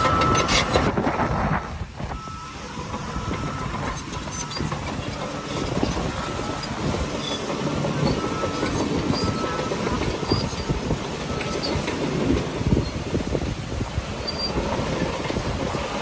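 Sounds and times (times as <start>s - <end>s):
bulldozer engine: 0.0s - 16.0s
steel tracks clanking: 0.0s - 16.0s.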